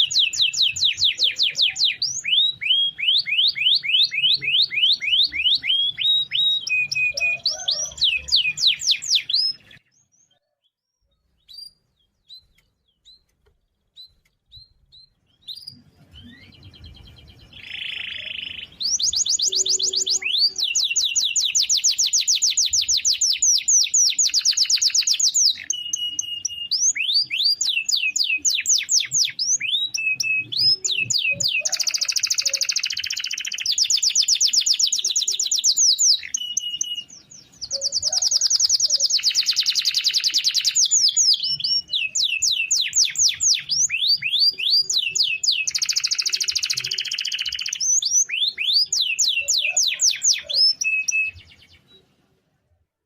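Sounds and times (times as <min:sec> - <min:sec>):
canary singing trills: 0:00.0 - 0:52.1.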